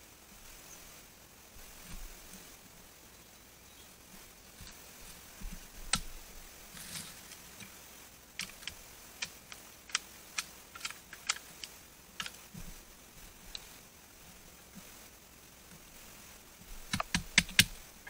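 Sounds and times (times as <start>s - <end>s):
dry leaves and twigs crackling: 0.4s - 18.0s.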